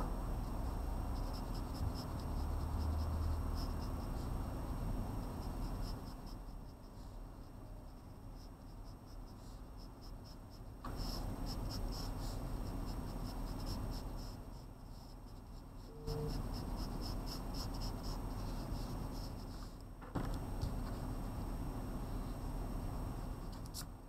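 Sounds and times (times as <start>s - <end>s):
pencil scratching on paper: 0.0s - 19.8s.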